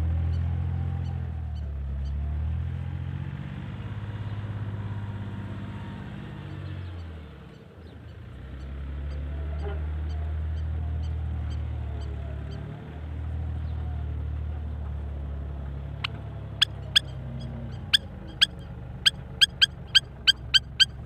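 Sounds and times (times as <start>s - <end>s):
heavy engine humming: 0.0s - 21.0s.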